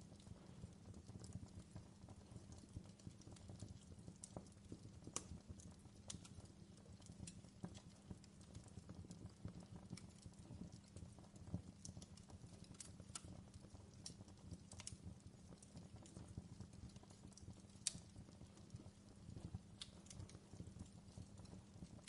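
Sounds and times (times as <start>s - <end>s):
fireplace fire crackling: 0.0s - 22.0s
low rumble of flames: 0.0s - 22.0s.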